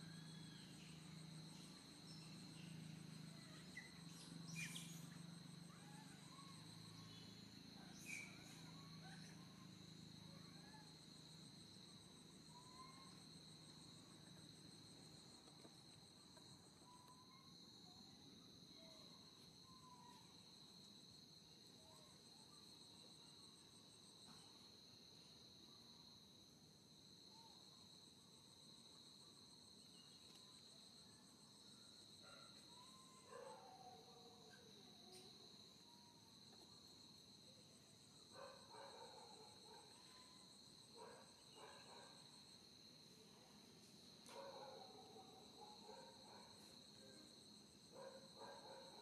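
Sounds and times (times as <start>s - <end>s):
insect chorus trilling: 0.0s - 49.0s.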